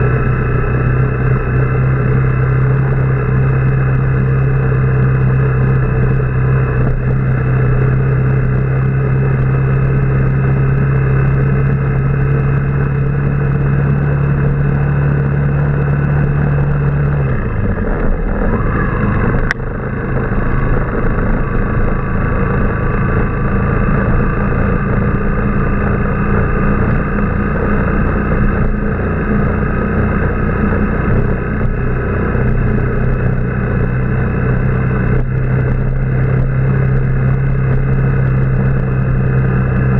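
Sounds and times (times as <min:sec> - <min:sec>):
motorbike engine running: 0:00.0 - 0:39.9
wind and road noise: 0:00.0 - 0:39.9.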